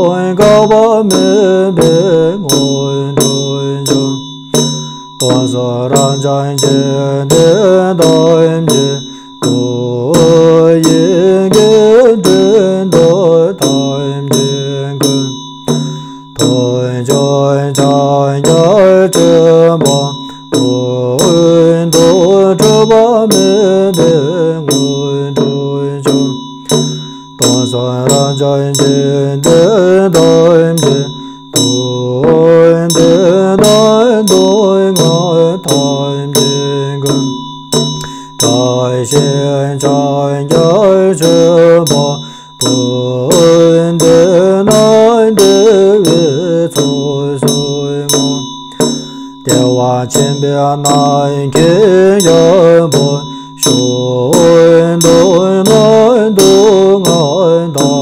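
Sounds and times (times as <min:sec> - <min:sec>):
hand bell ringing: 0:00.0 - 0:58.0
low melodic chanting: 0:00.0 - 0:58.0
rattling drum beats: 0:00.0 - 0:58.0.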